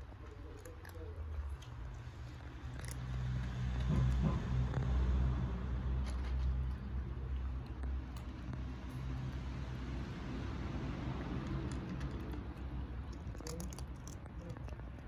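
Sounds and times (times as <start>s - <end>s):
cats crunching dry kibble: 0.0s - 15.0s
vehicle engine rumble: 0.0s - 15.0s.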